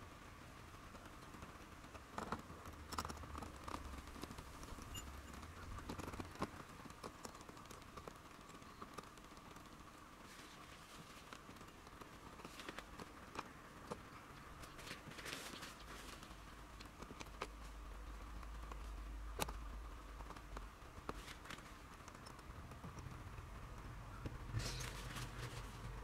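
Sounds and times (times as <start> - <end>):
faint clicks and knocks: 0.6 - 26.0.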